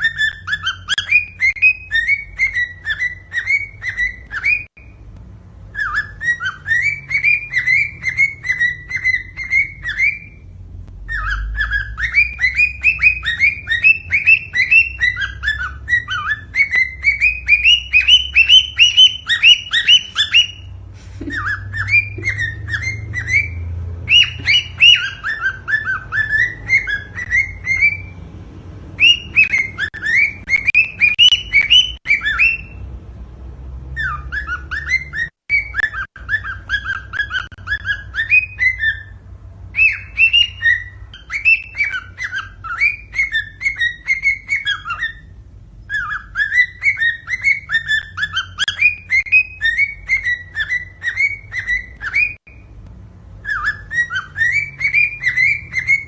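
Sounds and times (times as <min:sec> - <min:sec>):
cockatiel whistling song: 0:00.0 - 0:05.0, 0:05.6 - 0:28.3, 0:28.9 - 0:32.9, 0:33.9 - 0:52.8, 0:53.4 - 0:56.0.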